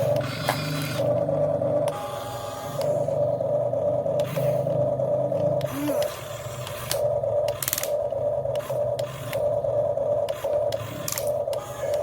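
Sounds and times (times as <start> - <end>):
small electric motor whining: 0.0 - 1.2, 1.9 - 3.4, 4.2 - 12.0.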